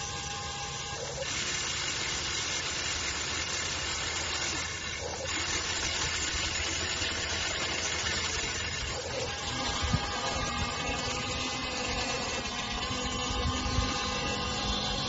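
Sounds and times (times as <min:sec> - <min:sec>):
toy excavator motors whirring: 0:00.0 - 0:15.0.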